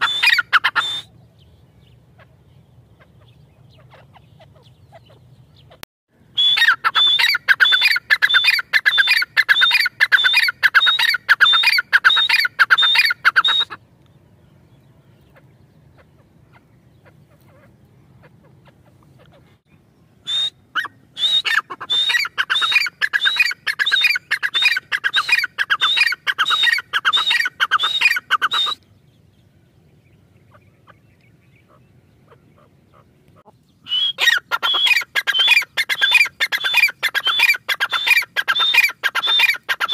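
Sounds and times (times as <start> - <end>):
francolin calling: 0.0 - 13.8, 20.2 - 28.9, 30.3 - 39.9.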